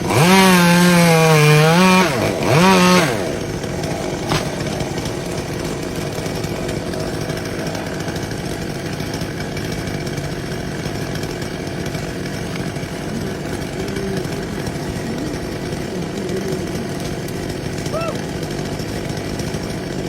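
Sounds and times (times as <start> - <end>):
chainsaw cutting a tree: 0.0 - 20.0.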